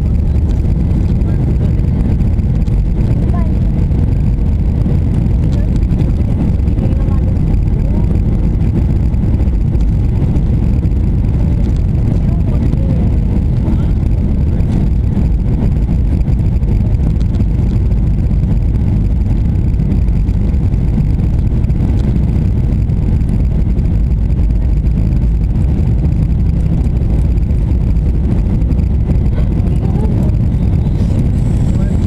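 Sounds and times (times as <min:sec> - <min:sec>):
jet engines rumbling: 0:00.0 - 0:32.0
rushing airflow: 0:00.0 - 0:32.0.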